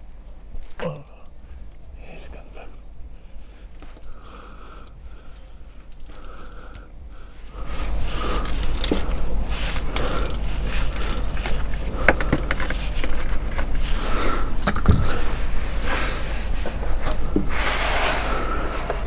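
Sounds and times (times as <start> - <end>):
low rumble of handling noise: 0.0 - 19.0.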